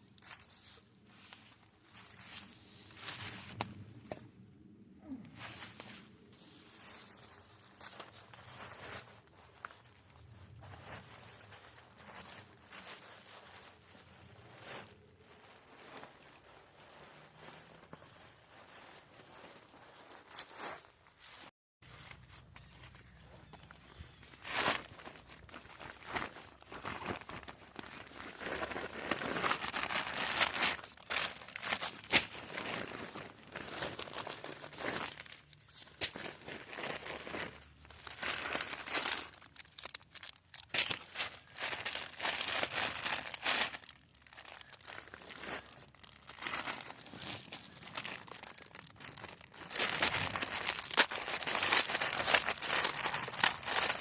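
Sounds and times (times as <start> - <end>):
crinkling and rustling: 0.0 - 54.0.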